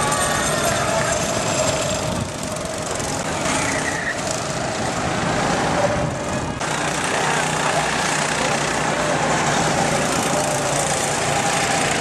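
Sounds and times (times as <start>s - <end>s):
go-kart engines droning: 0.0s - 12.0s
high-pitched engine whine: 0.0s - 12.0s.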